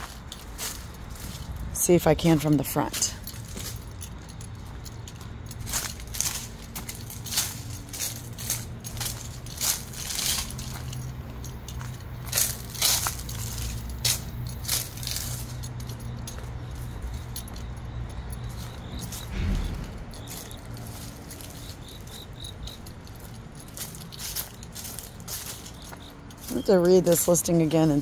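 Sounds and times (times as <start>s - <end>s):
footsteps crunching dry leaves: 0.0s - 17.7s, 18.4s - 28.0s.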